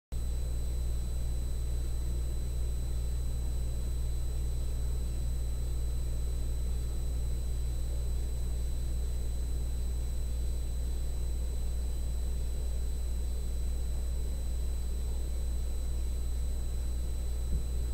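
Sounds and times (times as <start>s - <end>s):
low electrical hum: 0.1s - 17.9s
faint thin high whine: 0.2s - 17.9s.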